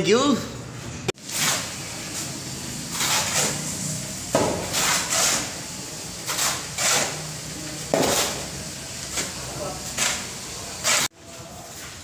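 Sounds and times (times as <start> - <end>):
shovels scraping concrete floor: 1.2 - 12.0.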